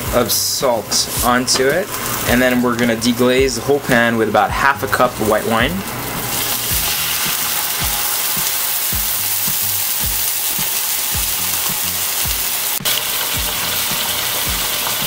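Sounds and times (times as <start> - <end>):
low regular beat: 0.0 - 4.8, 6.6 - 15.0
wine sizzling in hot pan: 0.0 - 15.0.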